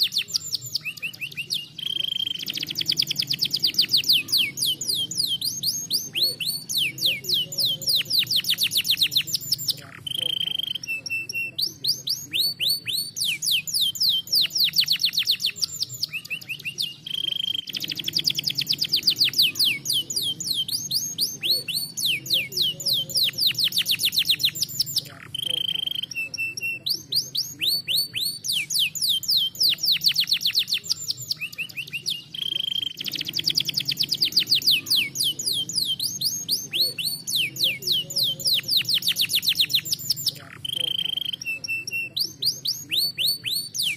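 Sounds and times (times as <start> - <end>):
canary trilling: 0.0 - 43.9.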